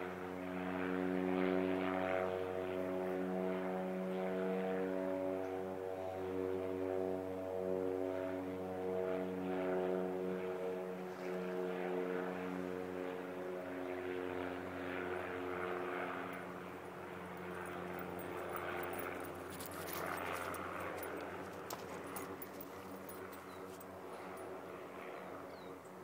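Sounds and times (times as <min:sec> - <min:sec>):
seaplane propeller engine droning: 0:00.0 - 0:26.0.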